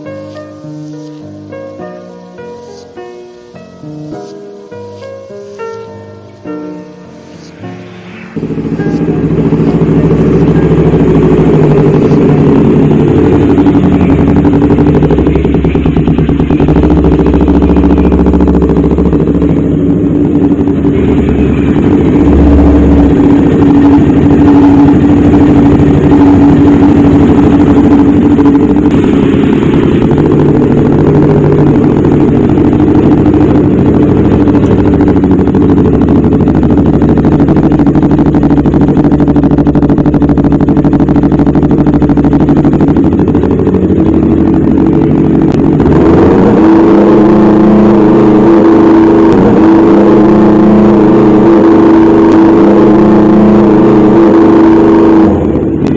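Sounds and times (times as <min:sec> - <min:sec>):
motorcycle engine through racing exhaust: 0:00.0 - 0:55.9.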